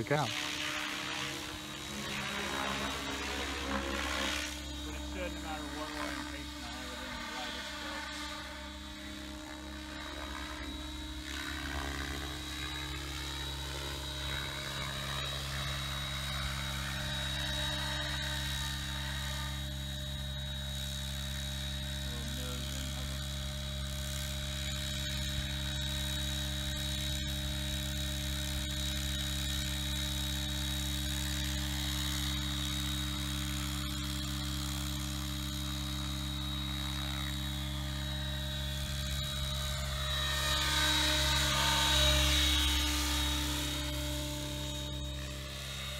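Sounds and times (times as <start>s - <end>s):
electric motor whine: 0.0s - 45.9s
helicopter rotors humming: 0.0s - 45.9s.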